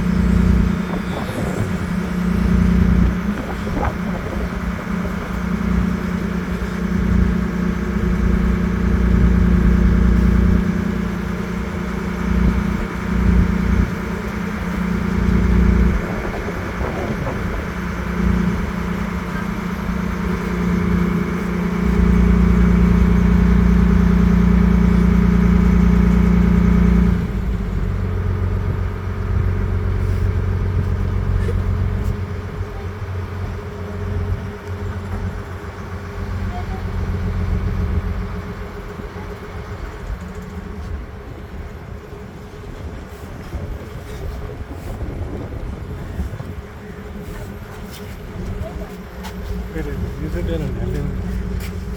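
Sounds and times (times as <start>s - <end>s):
boat engine humming: 0.0s - 51.9s
wind rumble on microphone: 0.0s - 51.9s.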